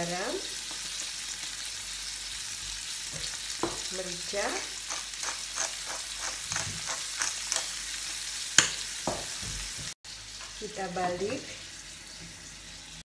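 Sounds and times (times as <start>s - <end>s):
scallops sizzling in hot oil: 0.0s - 13.0s.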